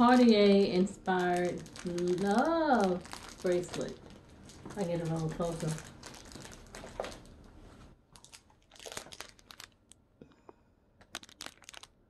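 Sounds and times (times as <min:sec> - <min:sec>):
plastic bag crinkling: 0:00.0 - 0:10.0, 0:11.0 - 0:12.0.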